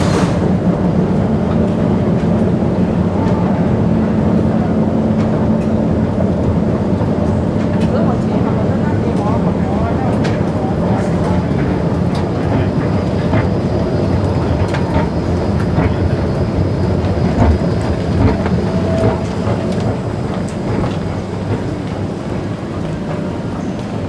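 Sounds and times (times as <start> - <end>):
escalator running: 0.0 - 24.0
low station rumble: 0.0 - 24.0.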